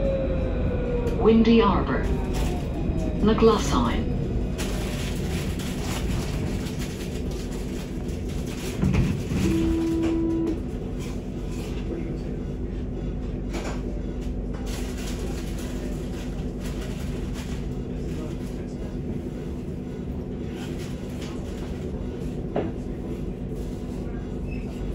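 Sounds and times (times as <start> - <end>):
tram wheels rumbling on rail: 0.0 - 24.9.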